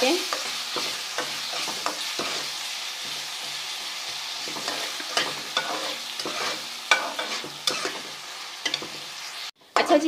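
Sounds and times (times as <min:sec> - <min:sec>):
onions sizzling in oil: 0:00.0 - 0:10.0
spoon scraping and knocking pan: 0:00.2 - 0:10.0.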